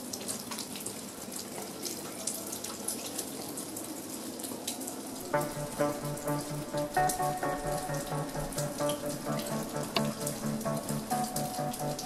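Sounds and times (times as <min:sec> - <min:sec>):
rain falling: 0:00.0 - 0:12.0
water drips: 0:00.0 - 0:12.0.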